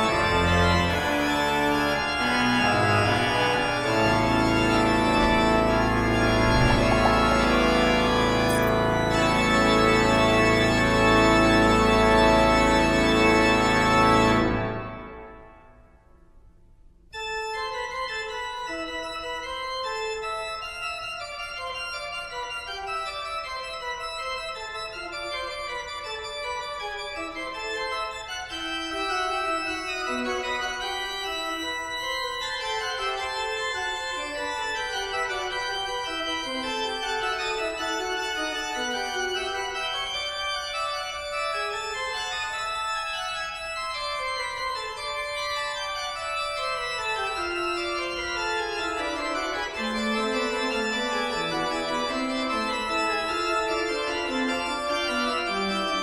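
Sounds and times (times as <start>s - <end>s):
organ music: 0.0s - 15.7s, 17.2s - 56.0s.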